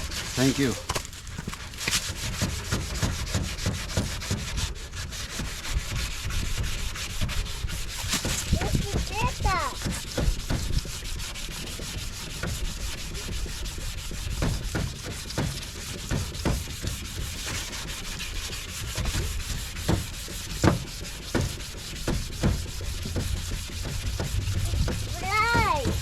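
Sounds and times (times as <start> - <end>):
sandpaper rubbing on plastic: 0.0 - 26.0.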